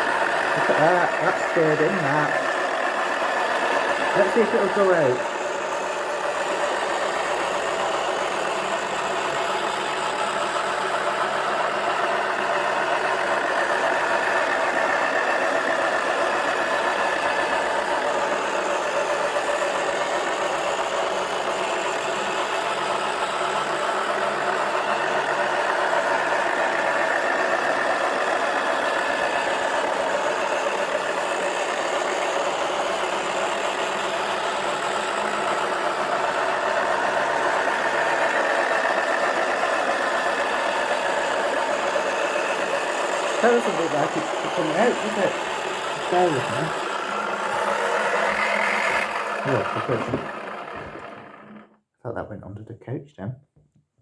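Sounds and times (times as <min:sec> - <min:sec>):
small electric motor running: 0:00.0 - 0:51.8.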